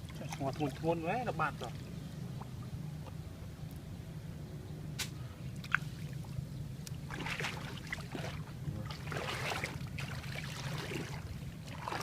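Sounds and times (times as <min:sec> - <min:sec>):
water splashing and sloshing: 0:00.0 - 0:03.8, 0:05.0 - 0:12.0
steady low hum: 0:00.0 - 0:12.0.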